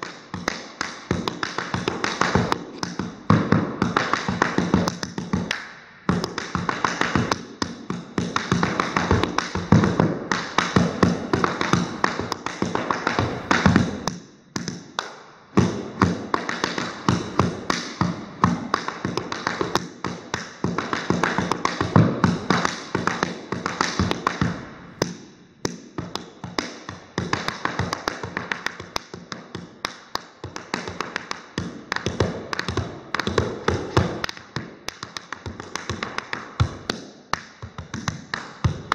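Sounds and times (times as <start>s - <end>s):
tap dancing on hardwood floor: 0.0s - 38.9s.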